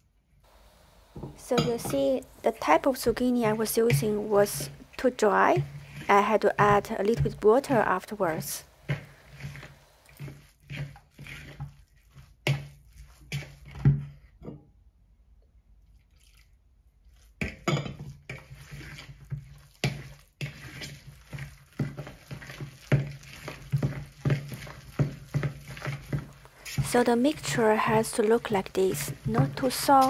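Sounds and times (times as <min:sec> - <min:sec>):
spoon stirring wet mixture: 0:00.5 - 0:14.4, 0:15.8 - 0:30.0.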